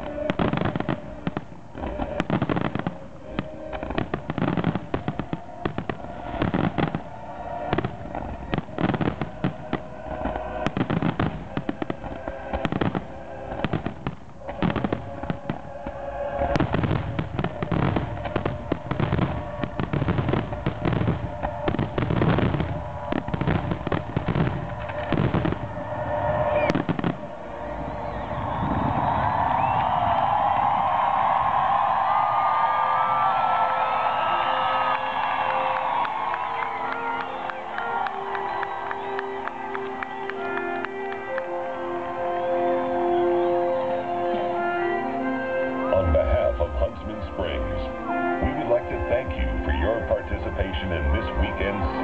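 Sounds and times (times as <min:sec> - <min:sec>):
fireworks bangs: 0:00.0 - 0:41.4, 0:45.8 - 0:52.0
fireworks crackles: 0:00.0 - 0:43.7, 0:44.3 - 0:52.0.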